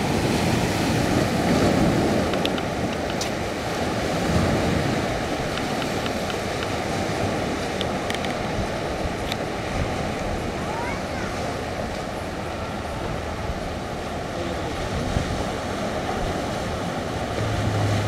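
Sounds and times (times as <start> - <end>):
ocean surf on rocky shore: 0.0 - 18.0.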